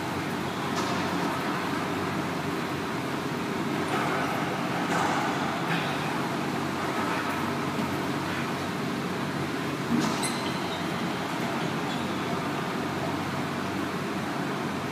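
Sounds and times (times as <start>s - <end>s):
steady loud hum: 0.0s - 14.9s.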